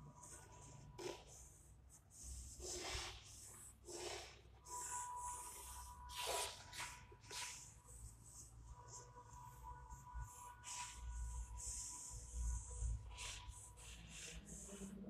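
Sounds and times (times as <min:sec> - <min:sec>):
chalk scraping on blackboard: 0:00.2 - 0:15.0.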